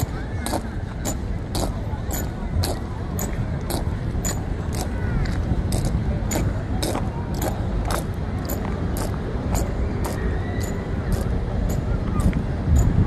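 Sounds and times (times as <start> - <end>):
boots marching on stone floor: 0.0 - 12.9
low steady rumble: 0.0 - 13.0.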